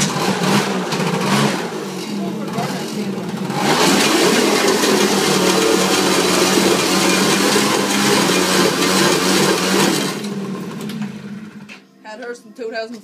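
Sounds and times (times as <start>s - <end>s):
atv engine running: 0.0s - 11.8s.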